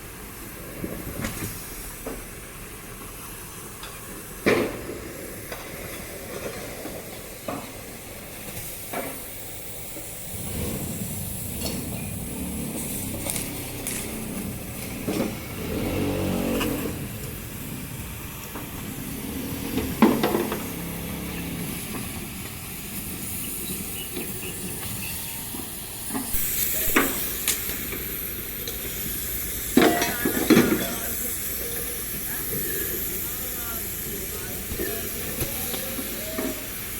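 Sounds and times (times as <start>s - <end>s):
hissing workshop noise: 0.0s - 36.9s.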